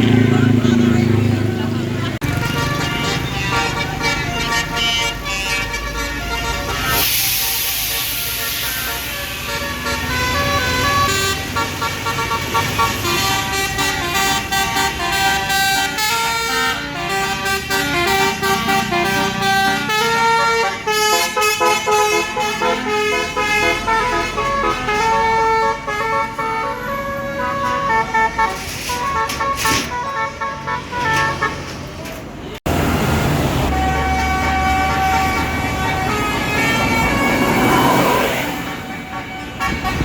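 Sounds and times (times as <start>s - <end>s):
bus engine running: 0.0s - 40.0s
musical bus horn melody: 2.2s - 32.6s, 33.4s - 40.0s.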